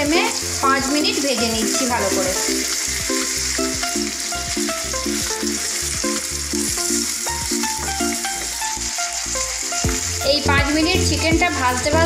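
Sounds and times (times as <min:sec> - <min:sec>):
background music of repeated notes: 0:00.0 - 0:12.0
chicken sizzling in oil: 0:00.0 - 0:12.0.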